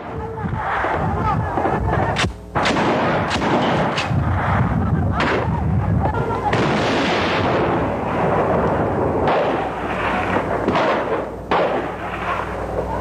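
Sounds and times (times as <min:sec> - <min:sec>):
dense gunfire: 0:00.0 - 0:05.6, 0:06.5 - 0:12.4
artillery explosions: 0:00.0 - 0:12.9.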